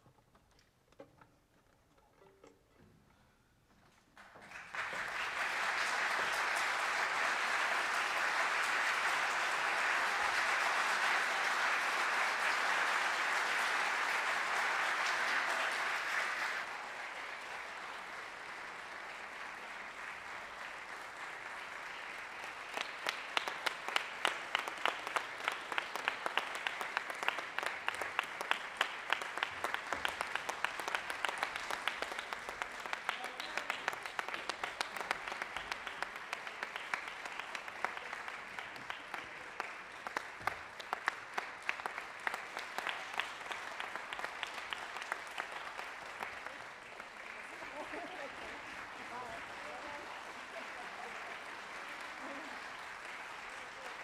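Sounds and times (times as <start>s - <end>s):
audience applauding: 4.2s - 54.0s.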